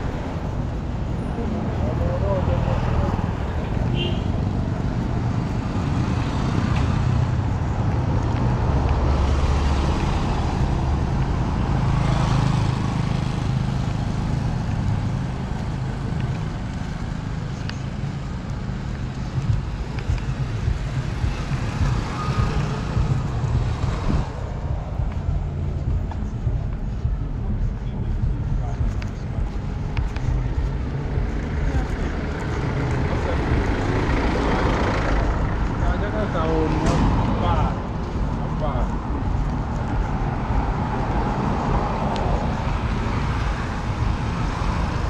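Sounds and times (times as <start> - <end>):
vehicle engines passing: 0.0 - 45.0.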